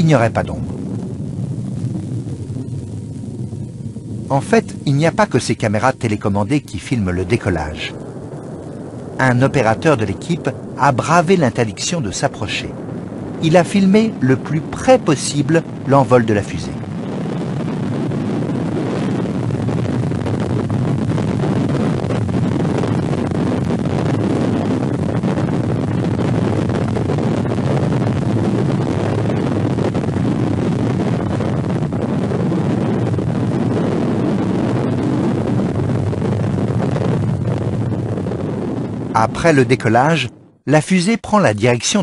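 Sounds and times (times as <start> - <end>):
rocket engines at lift-off: 0.0 - 40.5.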